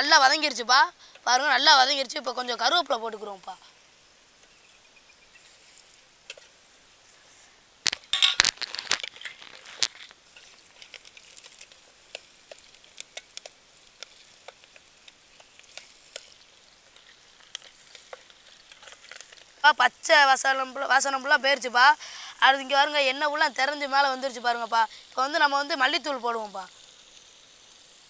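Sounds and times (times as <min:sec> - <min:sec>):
leaves sizzling in hot oil: 0:00.0 - 0:28.0
spluttering crackles in oil: 0:00.1 - 0:28.0.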